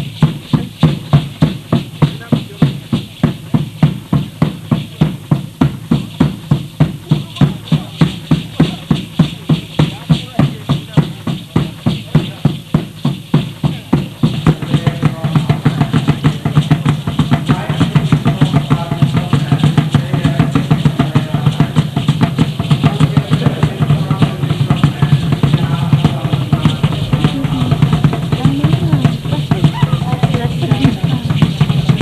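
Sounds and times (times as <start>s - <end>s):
fast deep drumming: 0.0s - 32.0s.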